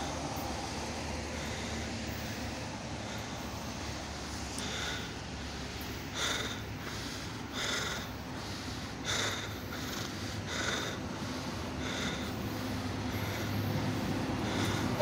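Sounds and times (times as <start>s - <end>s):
electric locomotive humming: 0.0s - 15.0s.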